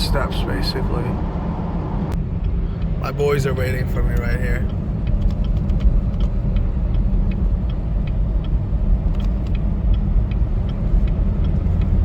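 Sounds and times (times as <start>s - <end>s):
car engine rumble: 0.0s - 12.0s
tyres on snowy road: 0.0s - 12.0s.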